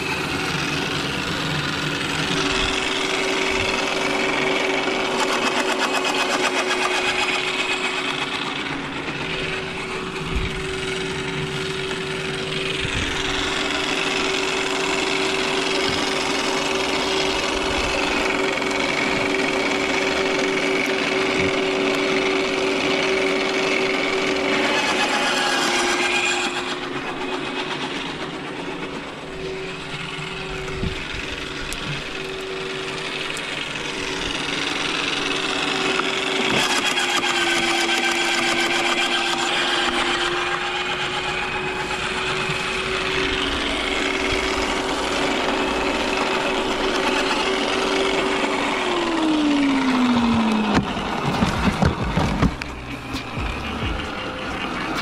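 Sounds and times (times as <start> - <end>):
branches grinding: 0.0 - 53.8
garden shredder motor whine: 0.0 - 55.0.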